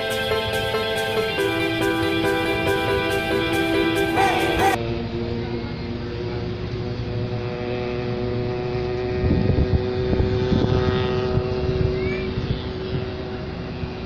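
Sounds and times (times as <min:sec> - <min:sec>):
steady engine drone: 0:00.0 - 0:14.0.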